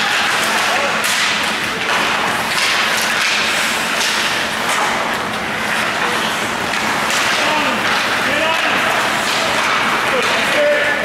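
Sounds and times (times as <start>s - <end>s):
hockey sticks knocking: 0.0s - 11.0s
skates scraping ice: 0.0s - 11.0s
steady rink noise: 0.0s - 11.0s.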